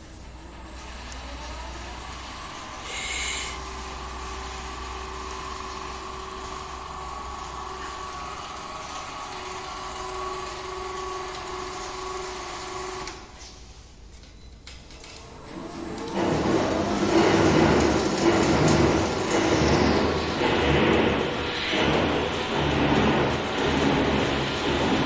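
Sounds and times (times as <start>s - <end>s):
faint machine whine: 0.0s - 25.0s
workshop machinery humming: 0.0s - 25.0s.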